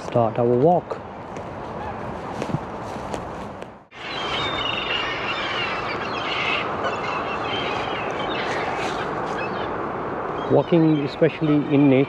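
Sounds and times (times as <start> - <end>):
birds calling: 0.0 - 12.0
steady rushing background noise: 0.0 - 12.0.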